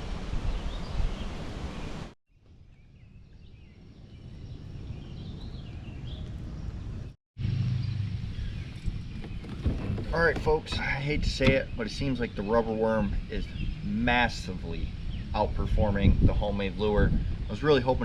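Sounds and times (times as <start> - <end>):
wind buffeting microphone: 0.0 - 18.0
small birds chirping and twittering: 0.4 - 18.0.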